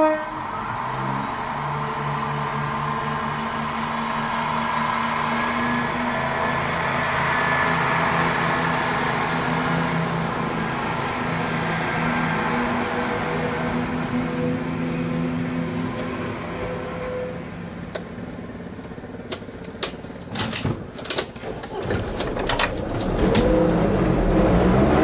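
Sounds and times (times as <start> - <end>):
train engine and wheel noise: 0.0 - 25.0.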